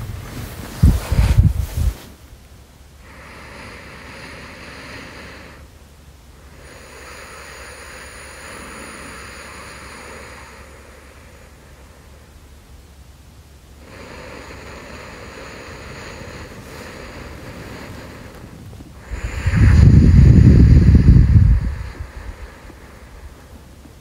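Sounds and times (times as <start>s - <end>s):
slow deep breathing: 2.9s - 24.0s.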